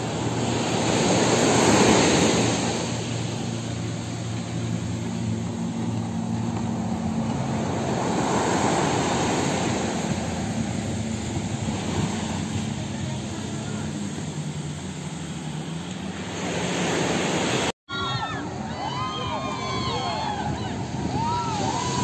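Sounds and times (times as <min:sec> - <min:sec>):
low engine hum: 0:00.0 - 0:17.7, 0:18.3 - 0:22.0
small waves washing onto sand: 0:00.0 - 0:17.7.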